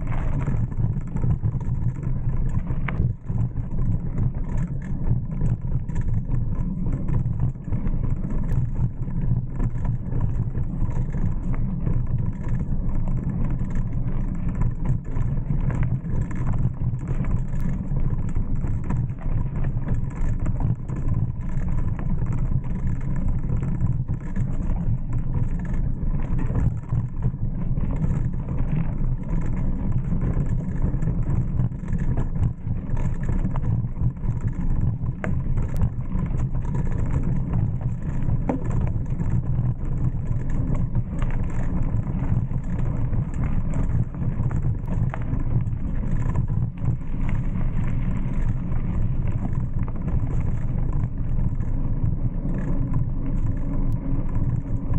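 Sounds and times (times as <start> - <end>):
bike tyres rolling on dirt: 0.0 - 54.9.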